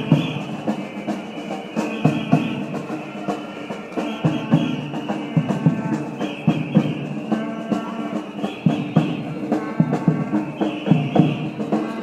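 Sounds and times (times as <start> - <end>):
crowd chanting: 0.0 - 12.0
drums beating: 0.0 - 12.0.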